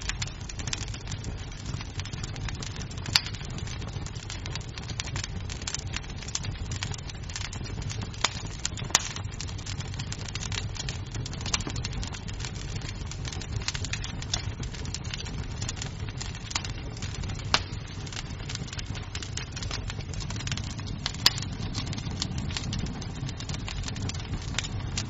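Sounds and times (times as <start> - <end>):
fire popping: 0.0 - 25.0
wood fire crackling: 0.0 - 25.0.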